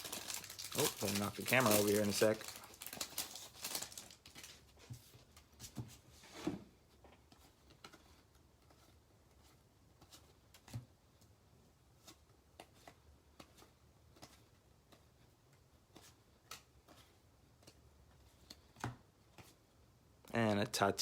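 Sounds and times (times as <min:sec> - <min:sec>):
trading cards rustling and clicking: 0:00.0 - 0:05.8, 0:07.2 - 0:10.8, 0:12.0 - 0:19.6.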